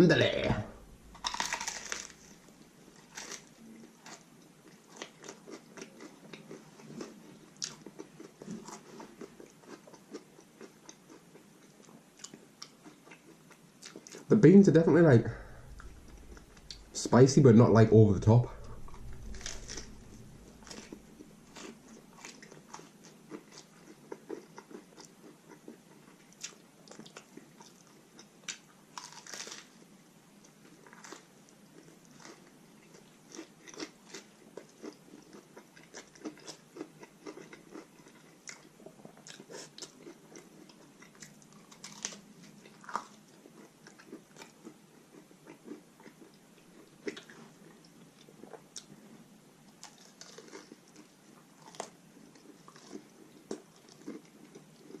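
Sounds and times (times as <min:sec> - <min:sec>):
person chewing crunchy food: 0:00.8 - 0:14.3, 0:15.4 - 0:16.9, 0:18.7 - 0:29.7, 0:30.6 - 0:49.1, 0:49.8 - 0:55.0.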